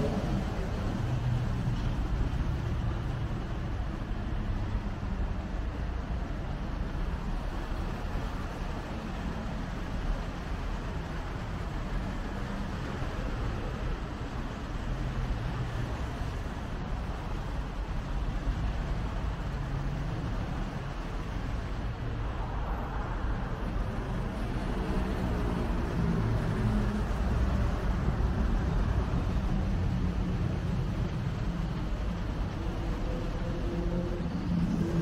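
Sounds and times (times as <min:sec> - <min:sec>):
road traffic hum: 0:00.0 - 0:35.0.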